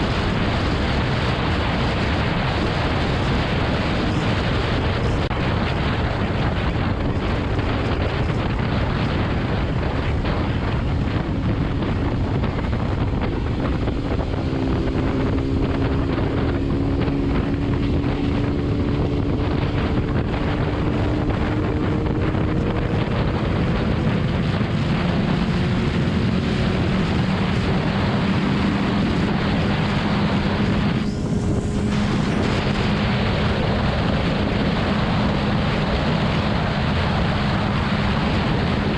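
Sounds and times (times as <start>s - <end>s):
faint motorcycle engine: 0.0s - 38.9s
wind roaring over microphone: 0.0s - 38.9s.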